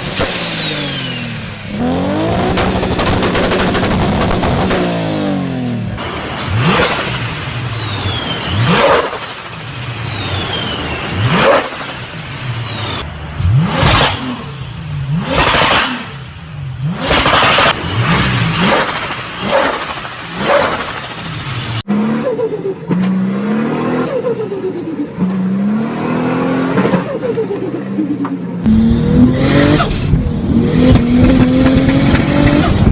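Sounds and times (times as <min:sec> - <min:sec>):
turbocharged car engine revving: 0:00.0 - 0:27.1, 0:28.6 - 0:32.9.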